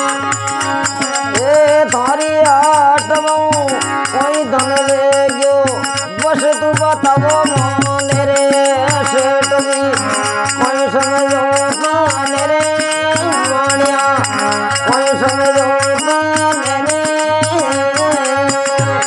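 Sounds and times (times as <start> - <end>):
devotional folk song melody: 0.0 - 19.0
jingling percussion: 0.0 - 19.0.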